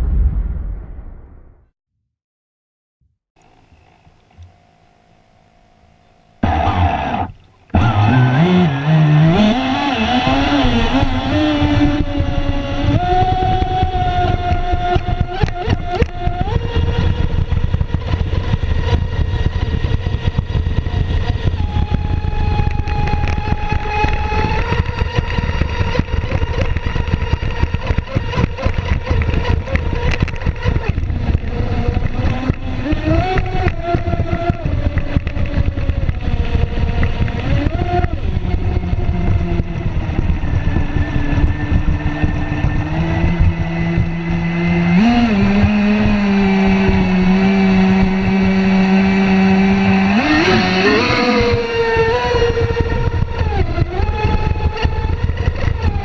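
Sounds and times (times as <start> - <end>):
wind: 0.0 - 1.4, 3.4 - 56.0
model boat motor whine: 3.4 - 56.0.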